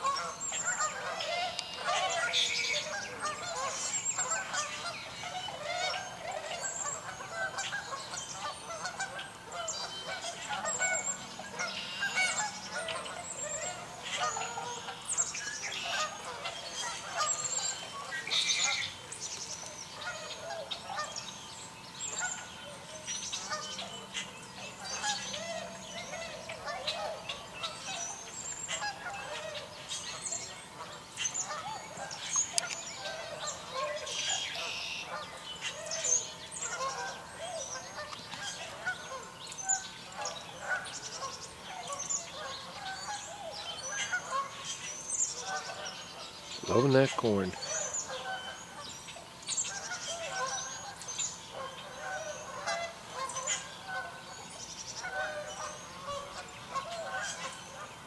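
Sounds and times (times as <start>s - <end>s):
swans and geese honking: 0.0s - 19.0s, 19.8s - 58.0s.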